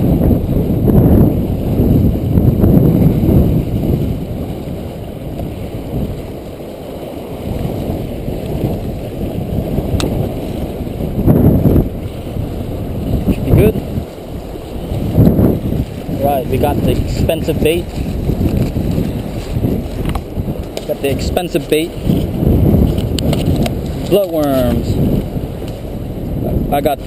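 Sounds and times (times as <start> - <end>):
waves washing against rocks: 0.0 - 27.0
wind buffeting microphone: 0.0 - 27.0.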